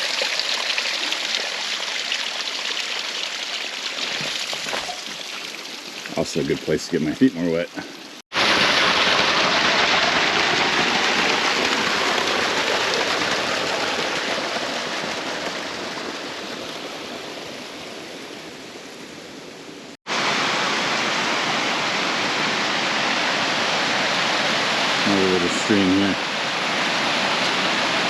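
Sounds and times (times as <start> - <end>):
creek water rushing: 0.0 - 18.7, 20.1 - 28.0
stream water rushing: 0.0 - 18.9, 20.1 - 28.0.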